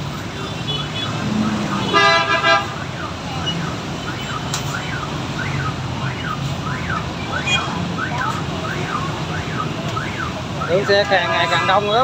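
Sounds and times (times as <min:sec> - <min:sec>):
motorbike traffic hum: 0:00.0 - 0:12.0.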